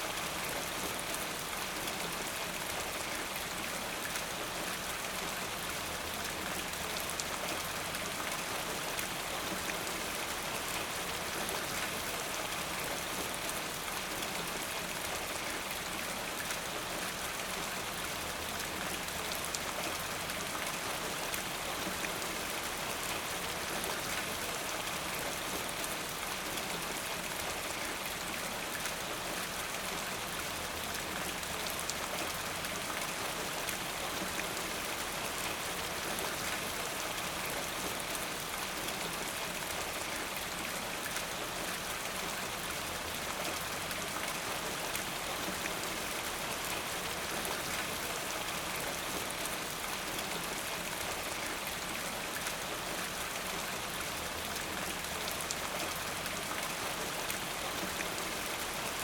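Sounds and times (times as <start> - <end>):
rain drops on hard surface: 0.0 - 59.0.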